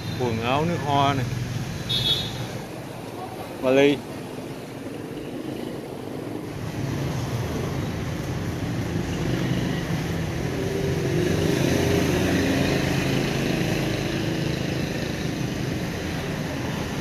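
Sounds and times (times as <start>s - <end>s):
motorbike and car engines passing: 0.0s - 17.0s.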